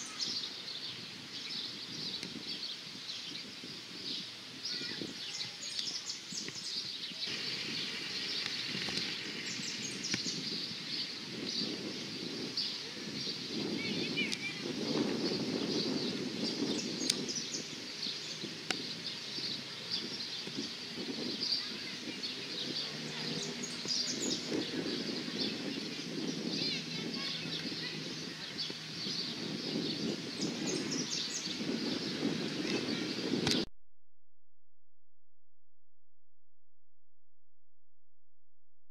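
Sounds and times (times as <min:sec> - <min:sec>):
birds chirping and singing: 0:00.0 - 0:33.7.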